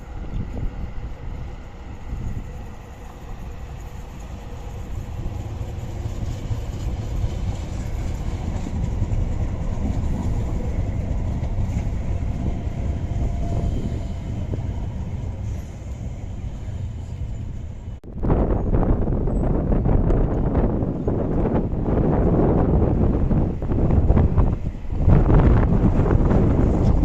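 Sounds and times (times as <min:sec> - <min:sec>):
passenger train rumbling past: 0:00.0 - 0:27.0.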